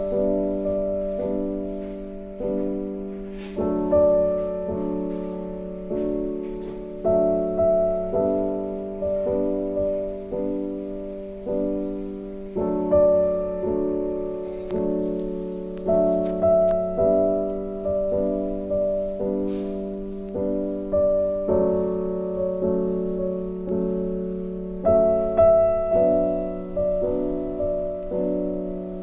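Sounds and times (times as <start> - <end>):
gentle piano chords: 0.0 - 29.0.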